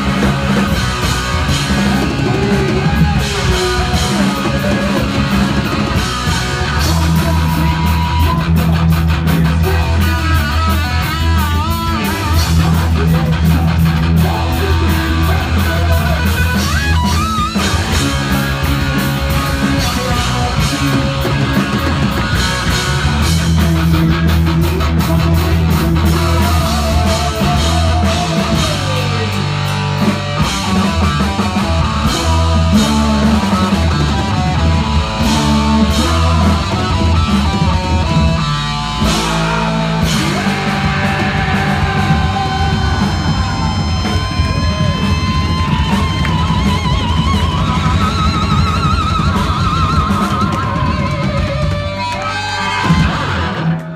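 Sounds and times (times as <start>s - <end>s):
bass guitar: 0.0s - 53.9s
distorted electric guitar: 0.0s - 53.9s
drum kit: 0.0s - 53.9s.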